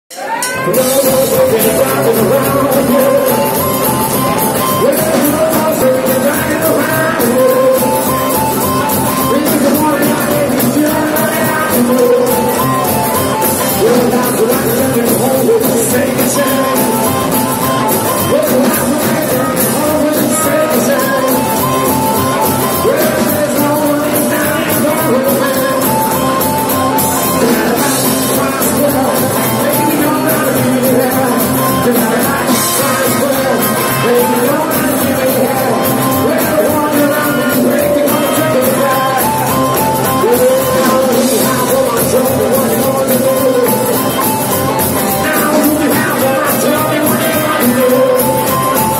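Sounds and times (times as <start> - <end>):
harmonica lead: 0.1 - 48.9
rock and roll band playing: 0.1 - 48.9.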